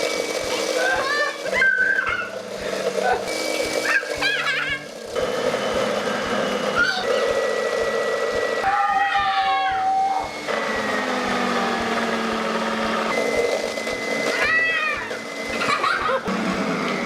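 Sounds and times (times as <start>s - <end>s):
juicing machine running: 0.0s - 17.0s.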